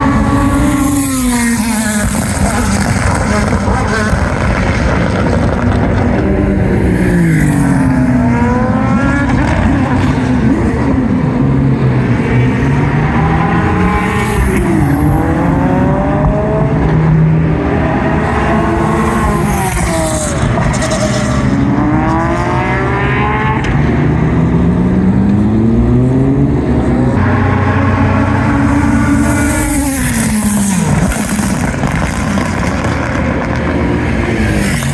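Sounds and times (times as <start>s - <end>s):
race cars passing at high revs: 0.0s - 34.9s.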